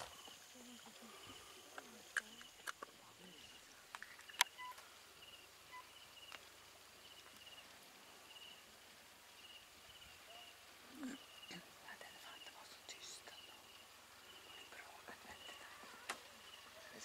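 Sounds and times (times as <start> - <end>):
cricket chirping in trills: 0.0 - 17.0.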